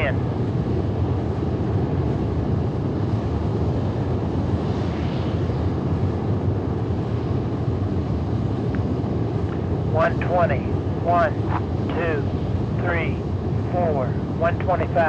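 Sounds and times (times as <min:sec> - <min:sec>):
rocket engine roar: 0:00.0 - 0:15.0.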